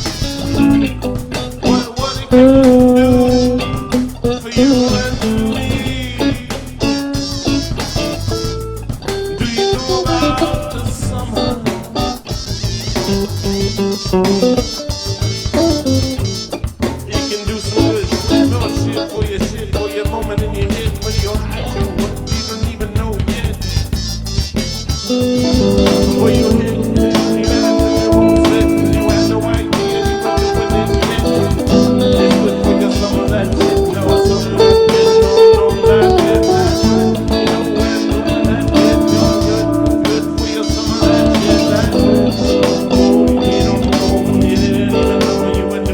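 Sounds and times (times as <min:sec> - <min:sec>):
bass: 0:00.0 - 0:45.9
drum hits: 0:00.0 - 0:45.9
plucked guitar line: 0:00.0 - 0:45.9.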